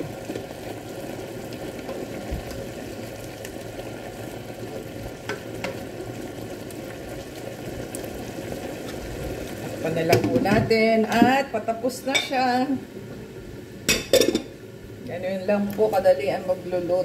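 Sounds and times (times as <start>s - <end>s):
food bubbling and sizzling: 0.0s - 17.0s.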